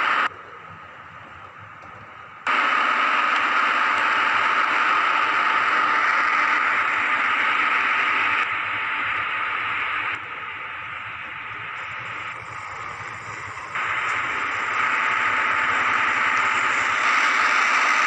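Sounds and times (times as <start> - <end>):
model train whirring on track: 0.0 - 18.0.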